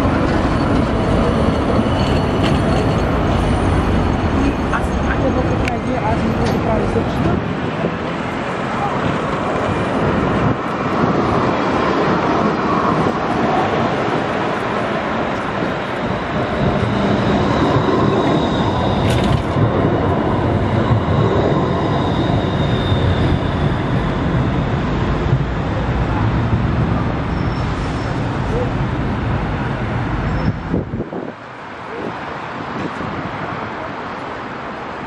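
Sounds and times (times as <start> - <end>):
tram running on rails: 0.0 - 35.0.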